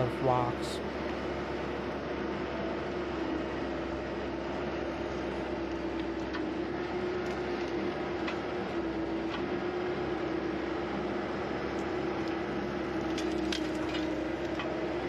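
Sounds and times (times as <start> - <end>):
skid steer engine hum: 0.0 - 15.0.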